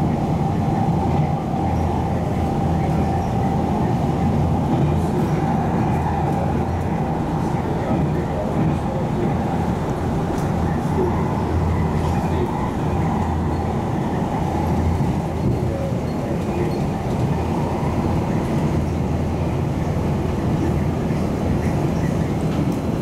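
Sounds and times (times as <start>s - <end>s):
railcar rumble from inside: 0.0s - 23.0s.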